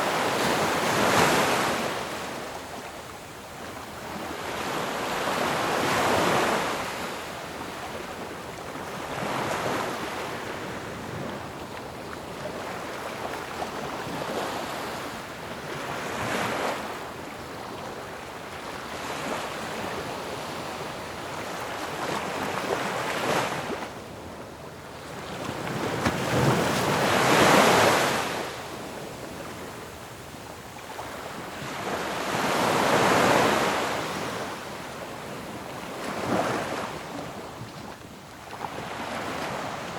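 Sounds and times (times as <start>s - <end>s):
ocean waves crashing on shore: 0.0s - 39.9s.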